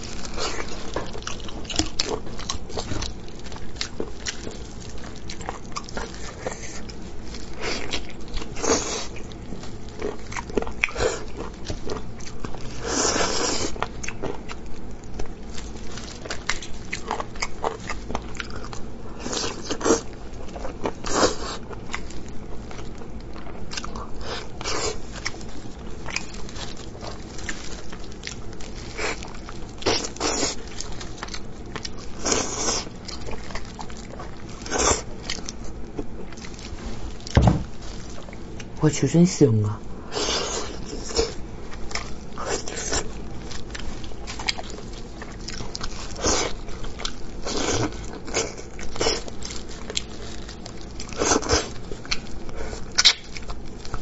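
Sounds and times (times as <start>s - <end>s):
person chewing meat: 0.0s - 54.0s.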